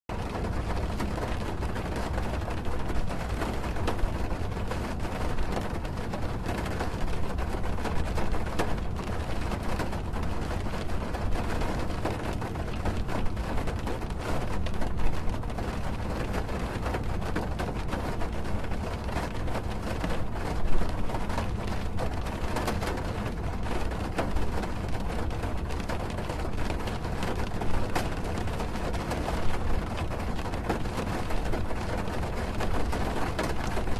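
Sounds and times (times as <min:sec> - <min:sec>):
rain drumming on car roof: 0:00.1 - 0:33.9.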